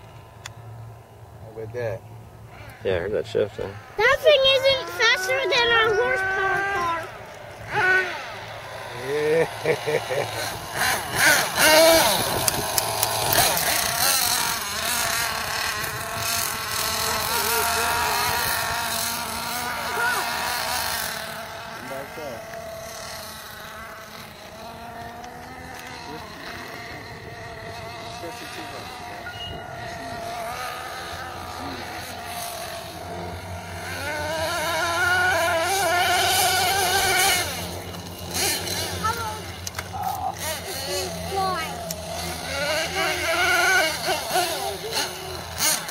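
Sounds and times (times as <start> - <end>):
model truck engine buzzing whine: 0.0 - 45.9.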